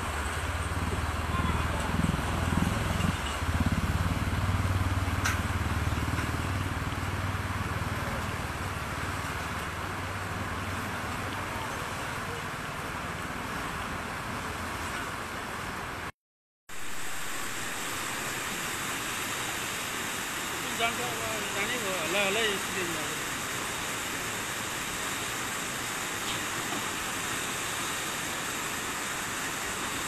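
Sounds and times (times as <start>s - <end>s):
river water rushing: 0.0s - 16.1s, 16.7s - 30.0s.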